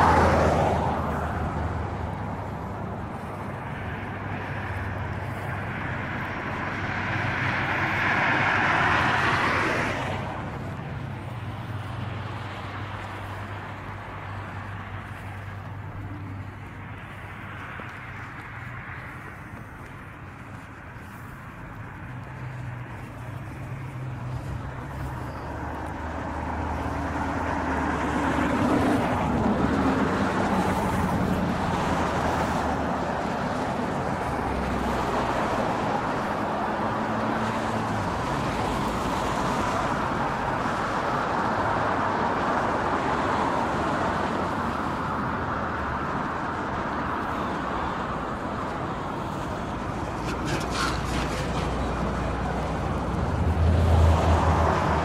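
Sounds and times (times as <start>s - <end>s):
traffic hiss: 0.0s - 55.0s
vehicle engine hum: 0.0s - 55.0s.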